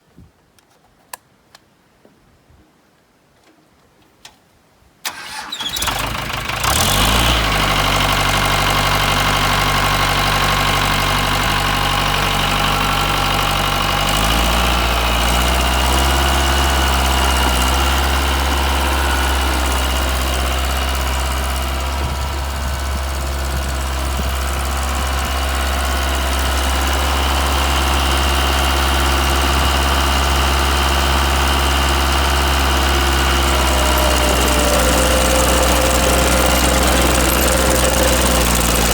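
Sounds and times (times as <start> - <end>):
diesel engine cranking: 5.1 - 38.9
diesel engine idling: 5.1 - 38.9.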